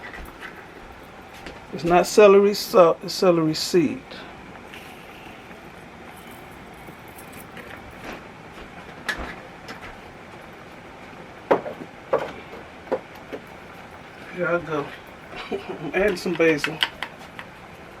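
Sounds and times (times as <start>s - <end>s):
steady low hiss: 0.0s - 18.0s.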